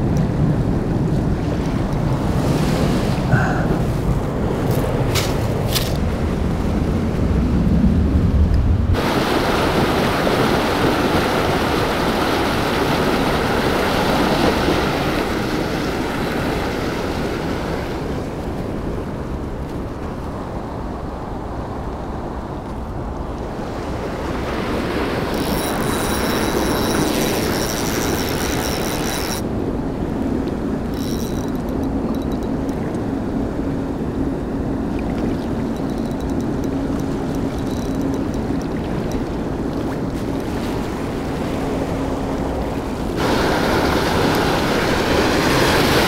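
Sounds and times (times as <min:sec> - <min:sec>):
wind buffeting microphone: 0:00.0 - 0:46.0
fast churning river water: 0:08.9 - 0:46.0.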